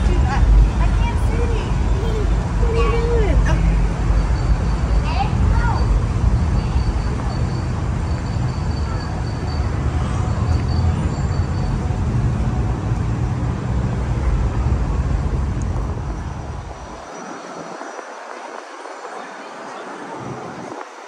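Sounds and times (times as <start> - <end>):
waterfront background noise: 0.0 - 21.0
wind buffeting microphone: 0.0 - 21.0.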